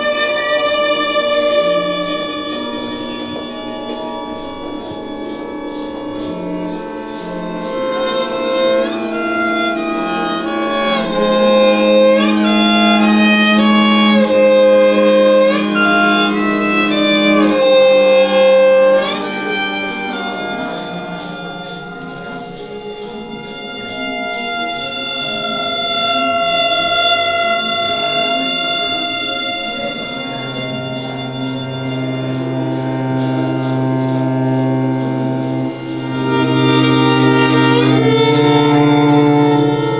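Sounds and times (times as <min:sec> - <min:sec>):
string quartet playing: 0:00.0 - 0:39.9.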